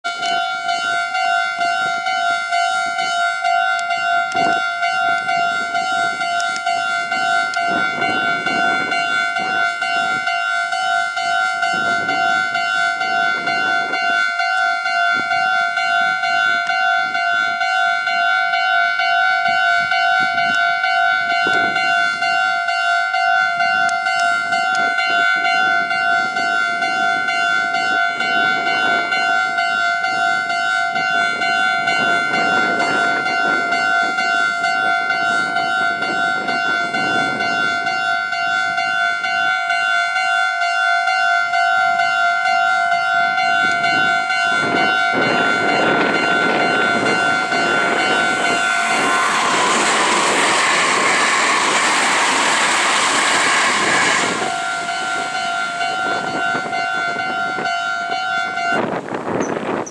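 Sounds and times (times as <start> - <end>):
level crossing alarm dinging: 0.0 - 59.9.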